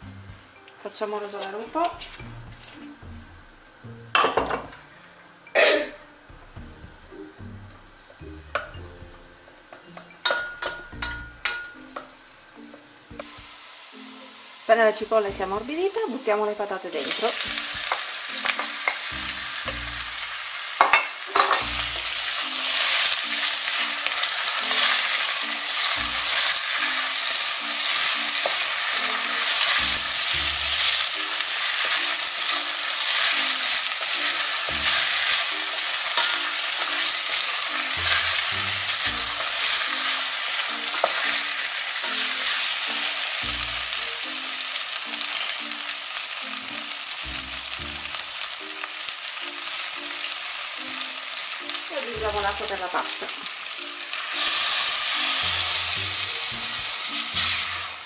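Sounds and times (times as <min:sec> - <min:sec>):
potatoes sizzling in oil: 0:00.0 - 0:58.0.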